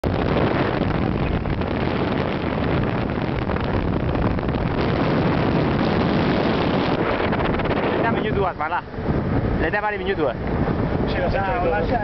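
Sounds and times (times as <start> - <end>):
car road noise: 0.0 - 12.0
wind rushing on microphone: 0.0 - 12.0.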